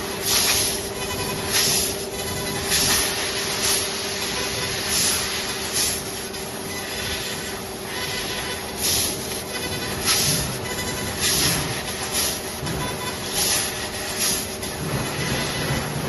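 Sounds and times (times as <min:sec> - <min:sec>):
constant machine hum: 0:00.0 - 0:16.0
laser cutter hissing: 0:00.0 - 0:16.0.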